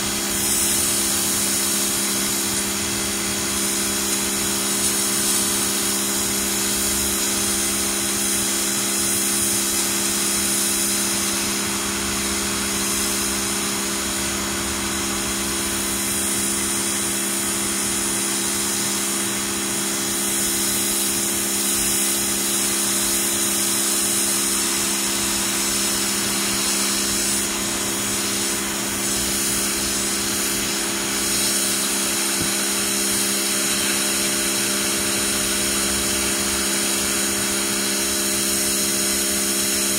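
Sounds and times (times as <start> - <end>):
pressure washer motor hum: 0.0 - 39.9
water jet hissing on concrete: 0.0 - 39.9.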